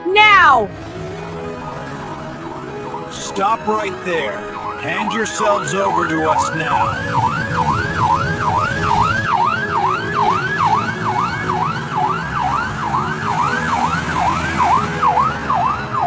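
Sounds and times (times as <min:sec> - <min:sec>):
police siren yelping: 0:00.2 - 0:16.0.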